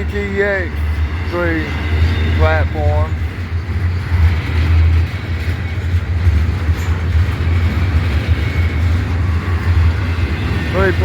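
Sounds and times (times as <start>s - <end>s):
freight train rolling past: 0.0s - 11.0s
wheel-on-rail noise: 0.0s - 11.0s.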